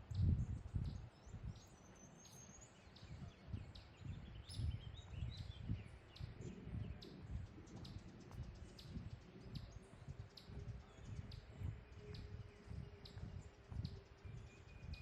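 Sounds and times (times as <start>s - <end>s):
footsteps on a trail: 0.0s - 15.0s
small birds chirping: 0.0s - 15.0s.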